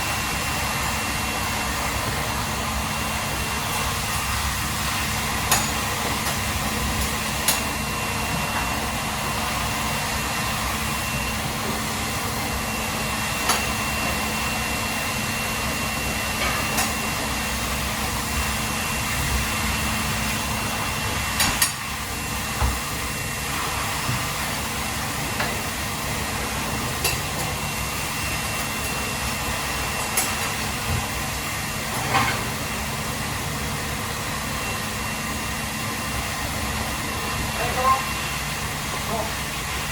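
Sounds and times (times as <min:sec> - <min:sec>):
machine hum and hiss: 0:00.0 - 0:39.9.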